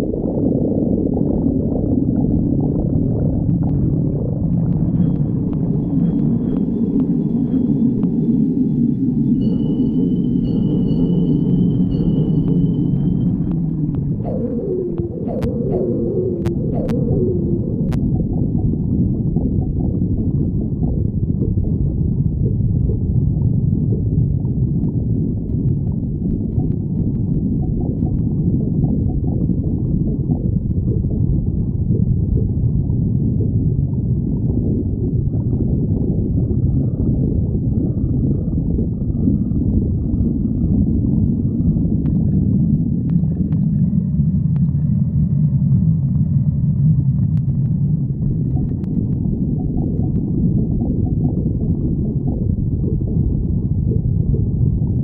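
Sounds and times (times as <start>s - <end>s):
stomach growling and gurgling: 0.0s - 55.0s.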